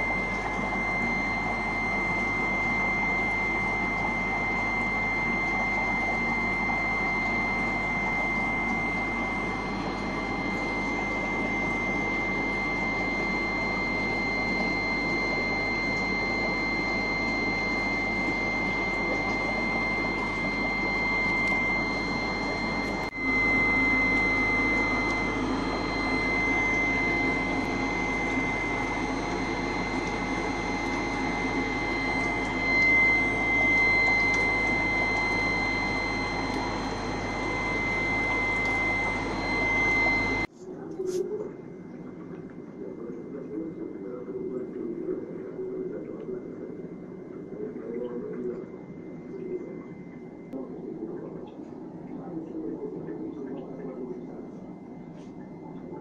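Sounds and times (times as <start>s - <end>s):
mechanical hum with high whine: 0.0s - 56.0s.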